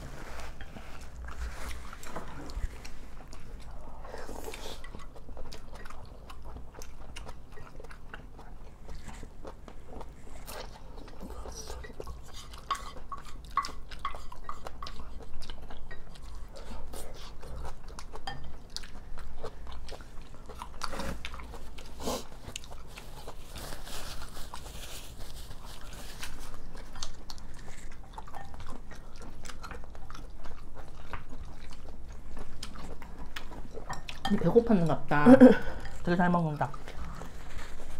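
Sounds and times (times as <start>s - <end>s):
people chewing food: 0.0s - 37.9s.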